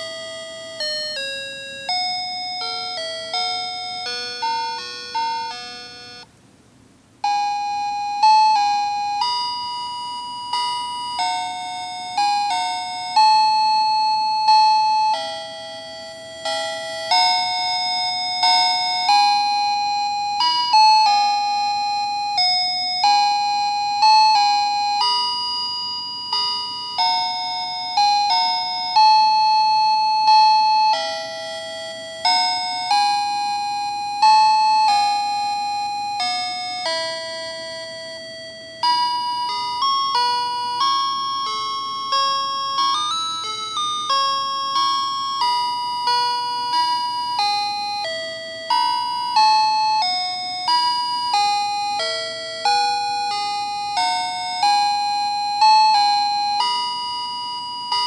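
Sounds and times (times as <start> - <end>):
electronic lullaby in chime tones: 0.0 - 6.3, 7.2 - 58.0.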